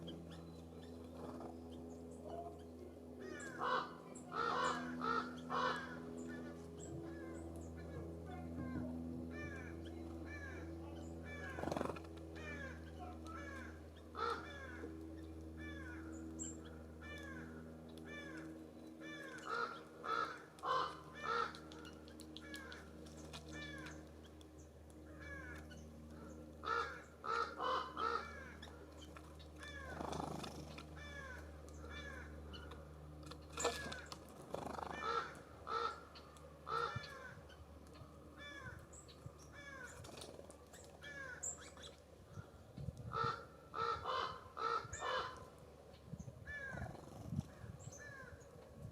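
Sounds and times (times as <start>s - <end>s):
birds harsh calls: 0.0s - 48.6s
steady low hum: 0.0s - 48.9s.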